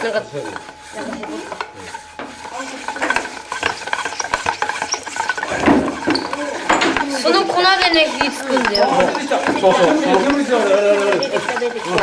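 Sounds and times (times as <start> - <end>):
fire drill friction rasp: 0.0 - 12.0.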